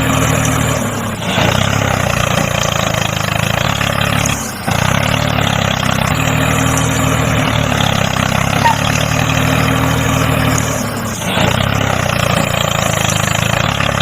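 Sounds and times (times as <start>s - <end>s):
mini tractor motor running: 0.0s - 14.0s.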